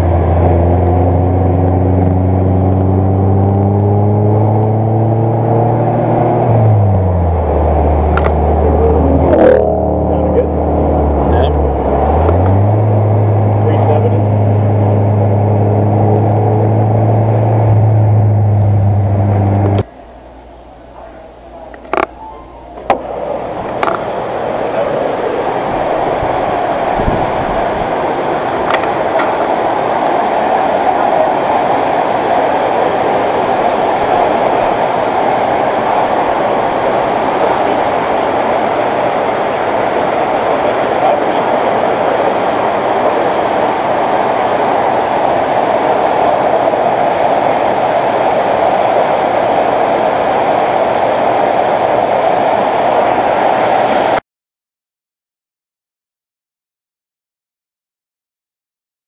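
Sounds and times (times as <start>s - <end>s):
car road and wind noise: 0.0s - 54.2s.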